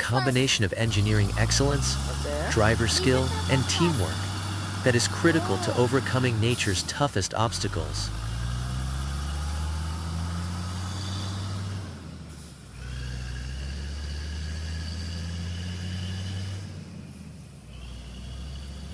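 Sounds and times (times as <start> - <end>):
truck engine running: 0.0 - 18.9.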